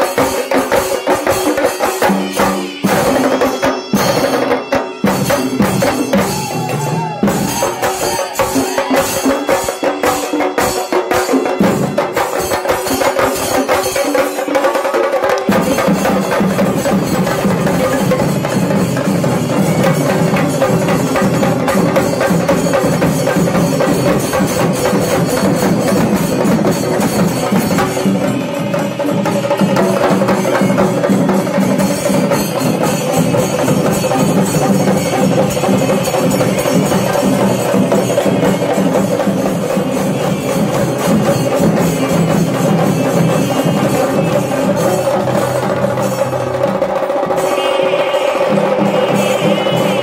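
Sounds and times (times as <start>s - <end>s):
drums beaten with sticks: 0.0s - 50.0s.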